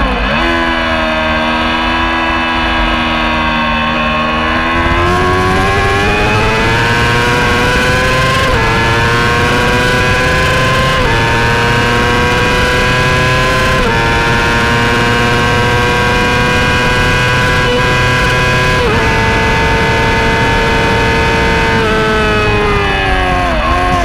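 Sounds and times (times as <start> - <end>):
motorcycle engine at high revs: 0.0 - 24.0.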